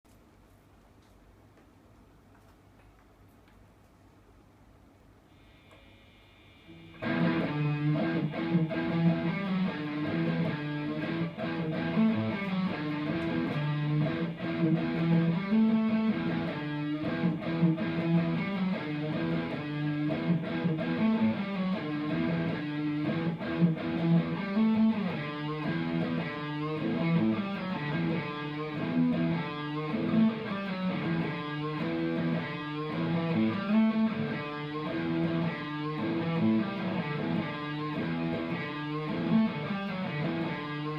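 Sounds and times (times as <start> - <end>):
electric guitar playing: 5.8 - 40.9.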